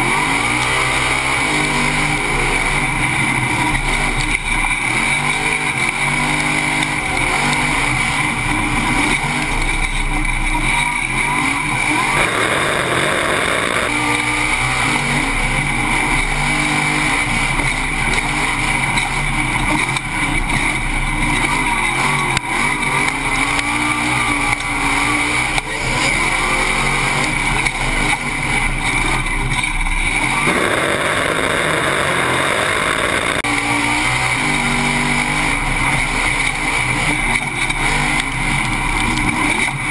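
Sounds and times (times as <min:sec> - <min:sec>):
dirt noise: 0:00.0 - 0:39.9
race truck engine revving: 0:00.0 - 0:39.9.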